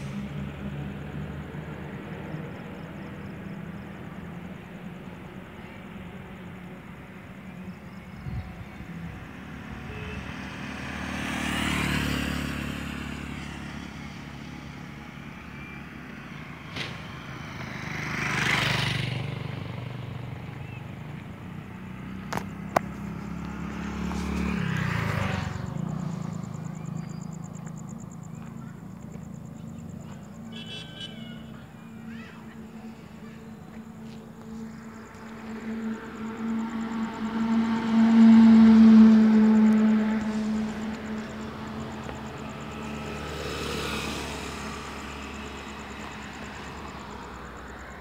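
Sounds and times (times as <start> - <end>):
vehicle passing on road: 0.0 - 48.0.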